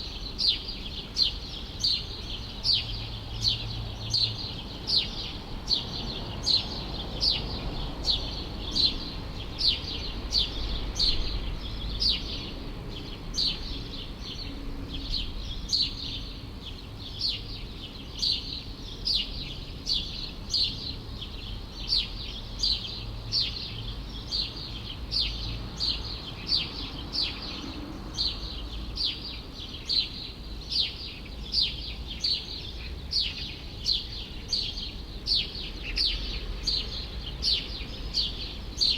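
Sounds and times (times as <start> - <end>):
low city rumble: 0.0 - 38.9.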